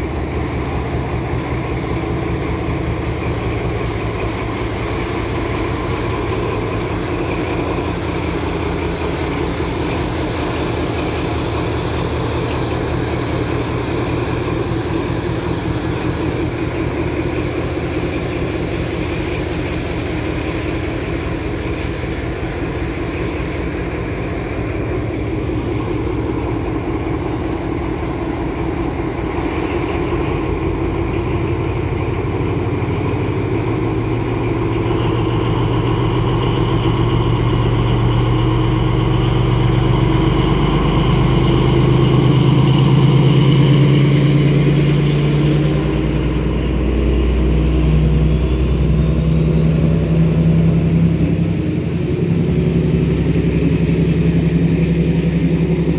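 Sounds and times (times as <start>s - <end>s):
diesel locomotive engine running: 0.0s - 55.9s
high whine: 0.0s - 55.9s.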